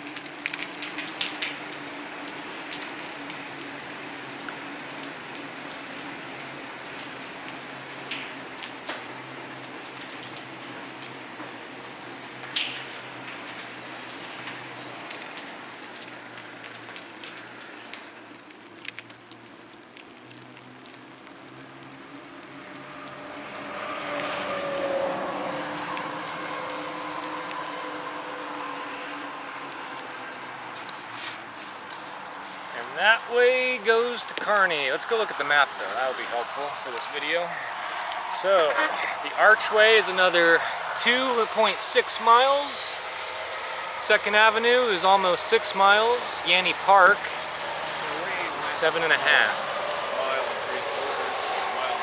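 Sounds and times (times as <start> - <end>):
highway traffic noise: 0.0 - 52.0
vehicle passing: 0.0 - 52.0.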